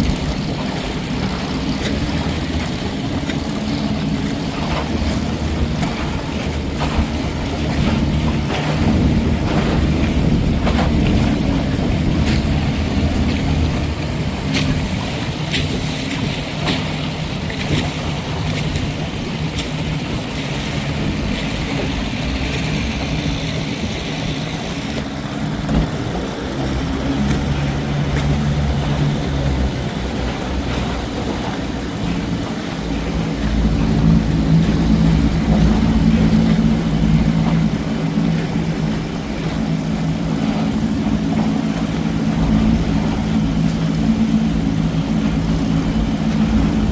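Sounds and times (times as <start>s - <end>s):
outboard motor running: 0.0s - 46.9s
water noise: 0.0s - 46.9s
wind: 0.0s - 46.9s.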